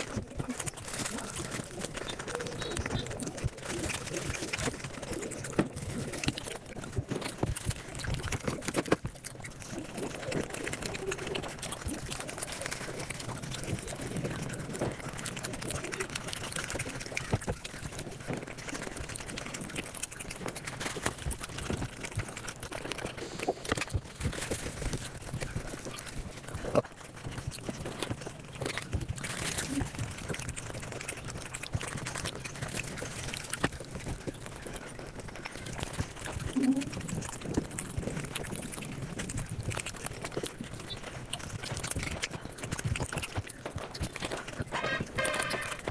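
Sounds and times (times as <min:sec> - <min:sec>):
sped-up chewing and mouth smacks: 0:00.0 - 0:45.9.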